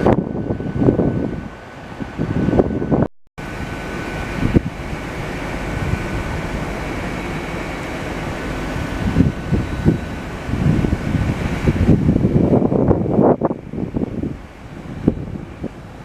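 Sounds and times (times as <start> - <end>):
faint high whine: 0.0 - 16.0
steady background hum: 0.0 - 16.0
wind buffeting microphone: 0.0 - 16.0.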